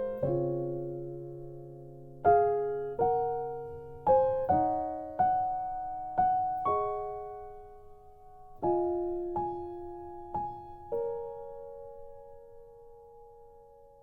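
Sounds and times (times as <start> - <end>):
slow gentle piano: 0.0 - 14.0.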